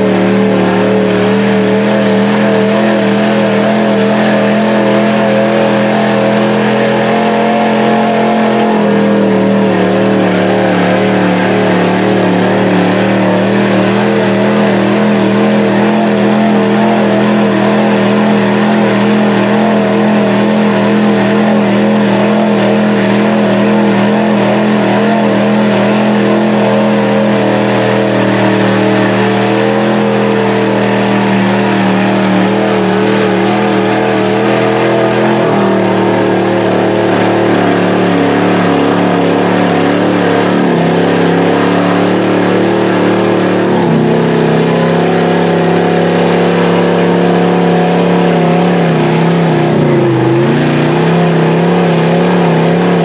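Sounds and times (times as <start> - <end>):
tires spinning in mud: 0.0 - 53.0
truck engine at high revs: 0.0 - 53.0.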